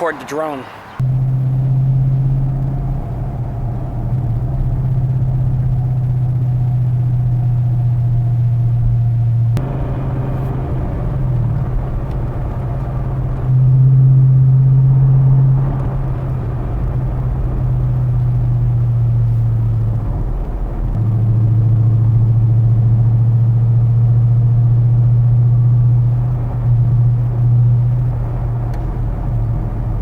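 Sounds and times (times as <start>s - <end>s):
car exhaust drone in cabin: 1.0s - 30.0s.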